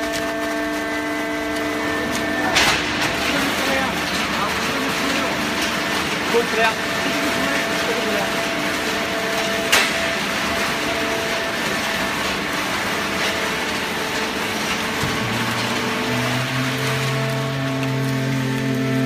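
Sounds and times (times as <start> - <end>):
hydraulic baling press running: 0.0 - 19.0.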